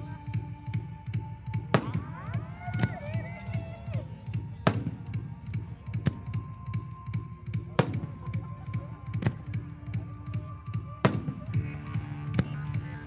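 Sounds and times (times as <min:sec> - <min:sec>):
music with low beat over loudspeakers: 0:00.0 - 0:13.0
fireworks bursting: 0:00.7 - 0:13.0
small fireworks pops: 0:01.1 - 0:13.0.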